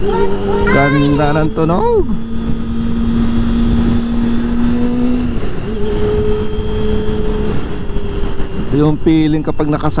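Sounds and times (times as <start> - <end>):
motorcycle engine revving high: 0.0 - 10.0
wind rush: 0.0 - 10.0.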